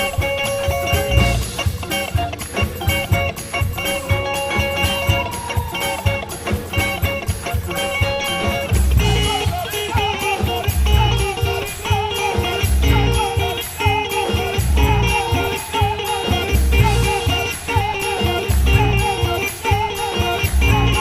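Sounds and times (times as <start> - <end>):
bass and percussion backing: 0.0 - 21.0
electric guitar solo: 0.0 - 21.0.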